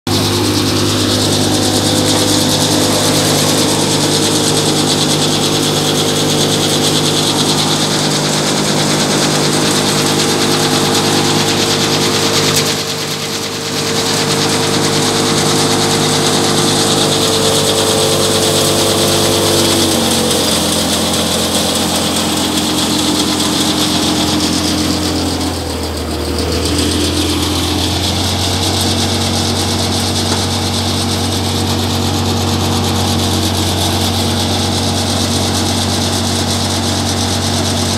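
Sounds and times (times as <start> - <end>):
thresher rushing hiss: 0.1 - 31.9
tractor engine running: 0.1 - 37.9.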